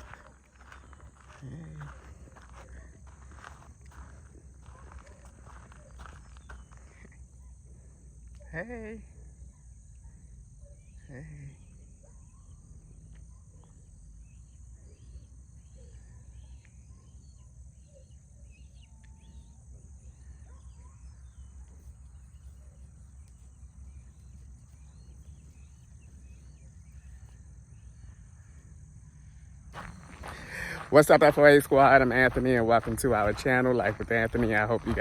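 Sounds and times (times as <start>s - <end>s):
short insect chirps: 4.8s - 35.0s.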